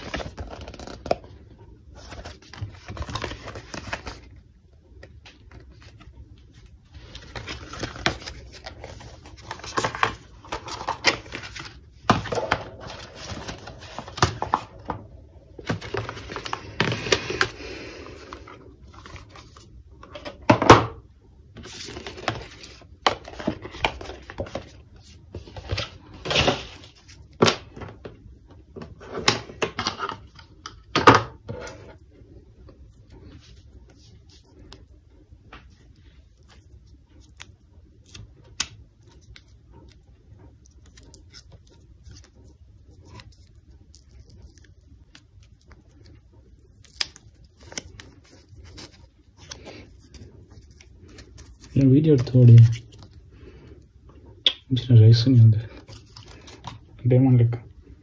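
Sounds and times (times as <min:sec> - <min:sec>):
cardboard and paper rustling: 0:00.0 - 0:04.4, 0:05.0 - 0:20.8, 0:21.6 - 0:32.0, 0:32.8 - 0:53.8, 0:55.3 - 0:56.9.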